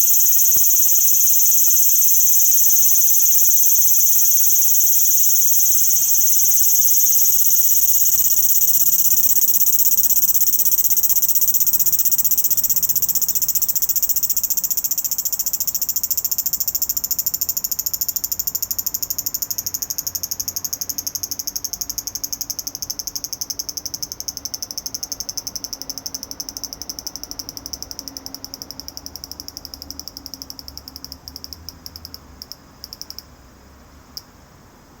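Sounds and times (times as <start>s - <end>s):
cicada buzzing: 0.0s - 32.2s.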